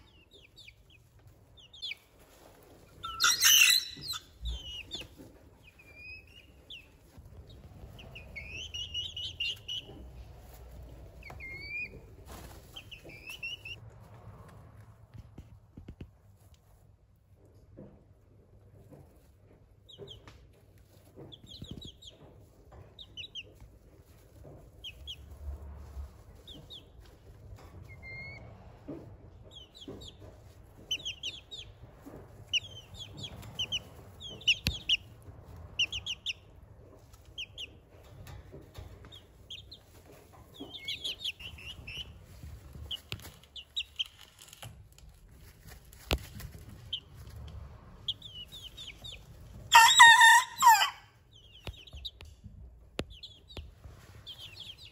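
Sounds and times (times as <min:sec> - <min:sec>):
chicks peeping: 0:00.0 - 0:13.9, 0:16.3 - 0:54.9.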